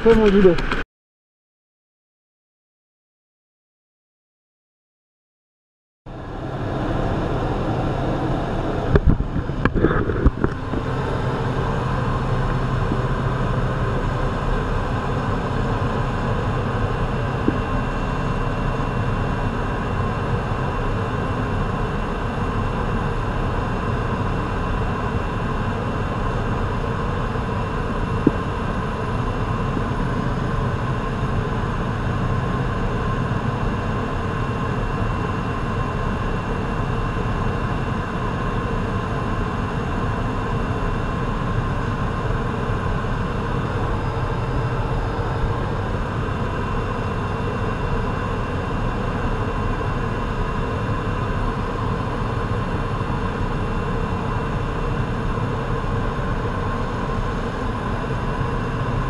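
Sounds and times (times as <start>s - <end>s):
plane engine drone: 6.1s - 59.0s.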